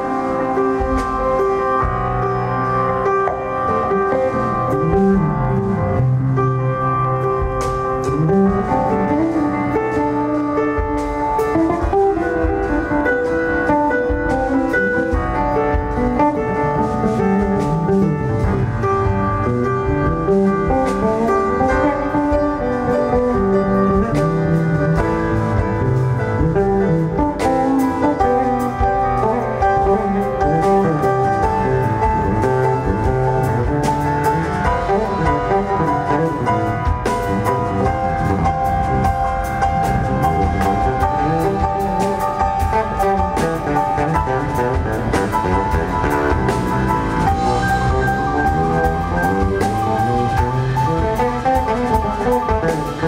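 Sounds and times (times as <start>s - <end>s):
drums and cymbals: 0.0s - 53.0s
electric bass: 0.0s - 53.0s
live jazz band: 0.0s - 53.0s.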